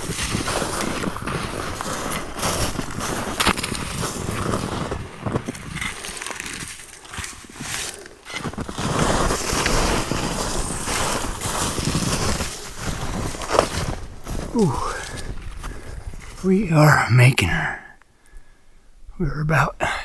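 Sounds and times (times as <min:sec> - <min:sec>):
trekking poles: 0:00.0 - 0:16.7
footsteps crunching through snow: 0:00.0 - 0:16.8.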